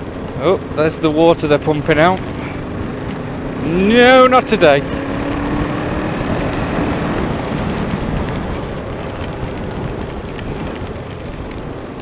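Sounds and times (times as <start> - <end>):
wind and road rush: 0.0 - 12.0.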